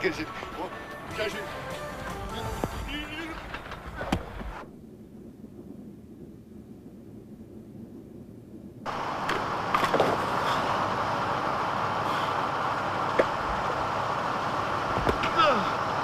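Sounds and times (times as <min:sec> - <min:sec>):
machinery engine rumble: 0:00.0 - 0:16.0.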